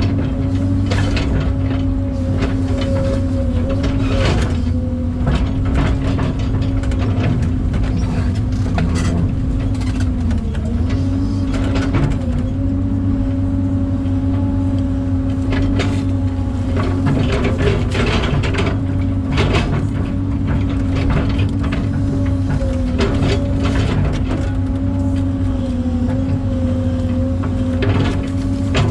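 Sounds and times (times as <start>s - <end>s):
machine clanks and knocks: 0.0s - 12.6s, 15.4s - 28.9s
excavator engine and hydraulics: 0.0s - 28.9s.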